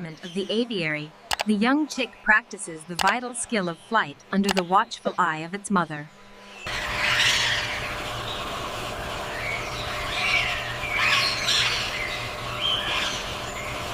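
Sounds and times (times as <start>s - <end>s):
birds chirping: 0.0s - 13.9s
low hum: 0.0s - 13.9s.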